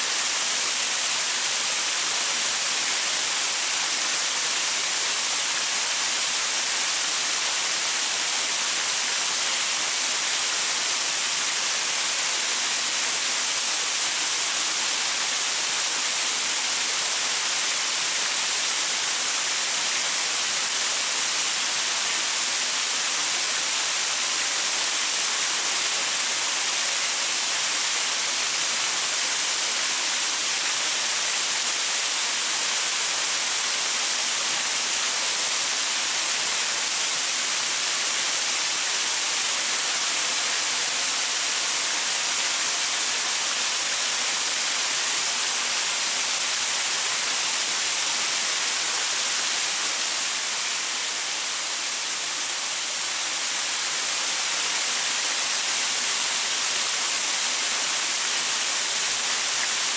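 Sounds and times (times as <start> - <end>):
waterfall splashing onto rocks: 0.0 - 59.9.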